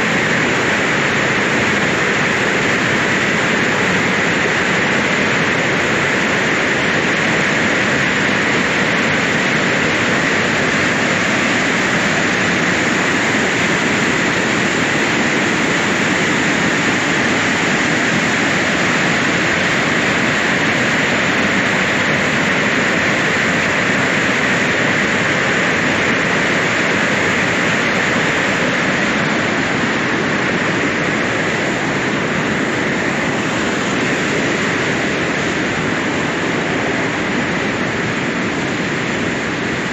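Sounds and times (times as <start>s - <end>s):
water rushing over dam: 0.0s - 39.9s.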